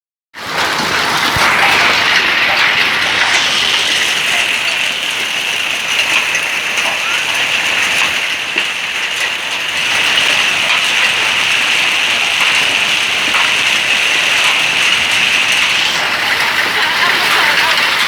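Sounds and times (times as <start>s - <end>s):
raindrop clicks: 0.4s - 18.0s
steady rain falling: 0.4s - 18.0s.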